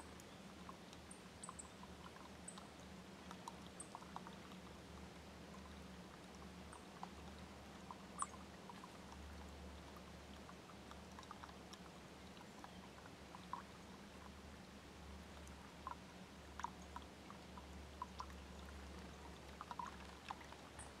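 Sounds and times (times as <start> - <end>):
small ticks and clicks: 0.0 - 21.0.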